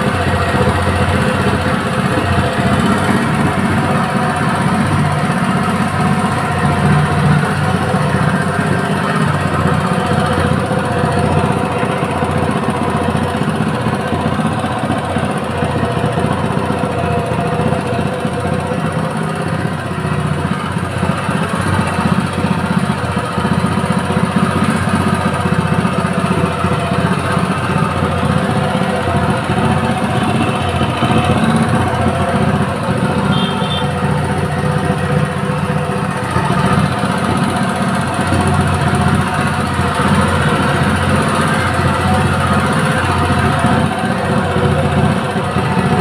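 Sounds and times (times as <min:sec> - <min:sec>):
four-stroke engine running steadily: 0:00.0 - 0:46.0.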